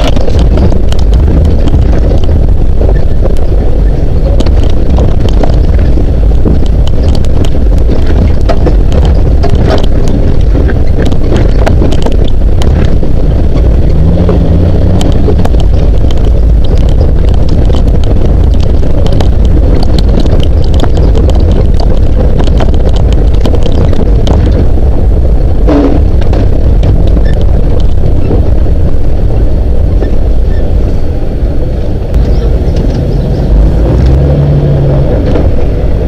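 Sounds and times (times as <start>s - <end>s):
knocks and rattles from bumps: 0.0s - 30.6s
engine and road rumble: 0.0s - 36.0s
wind buffeting microphone: 0.0s - 36.0s.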